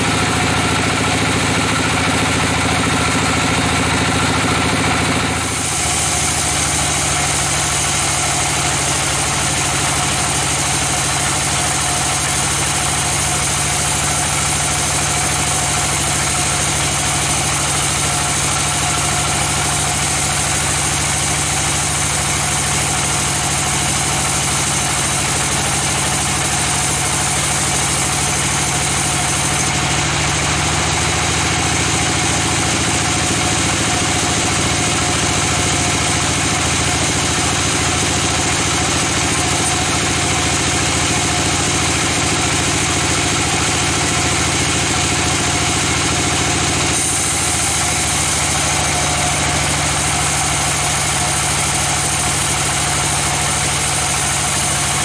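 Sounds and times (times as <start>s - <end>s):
band sawmill droning: 0.0s - 55.0s.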